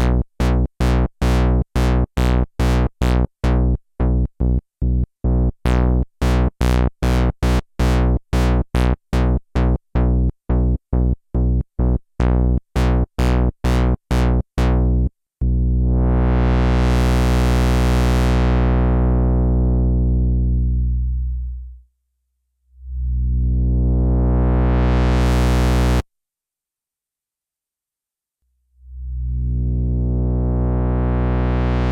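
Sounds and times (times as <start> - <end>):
analog synthesizer notes: 0.0 - 21.8, 22.8 - 26.0, 28.9 - 31.9.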